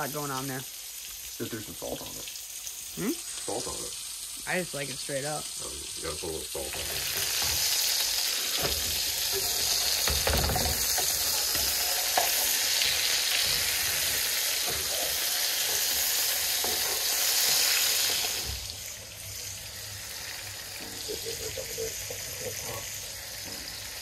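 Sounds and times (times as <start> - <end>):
burger patties sizzling: 0.0 - 24.0.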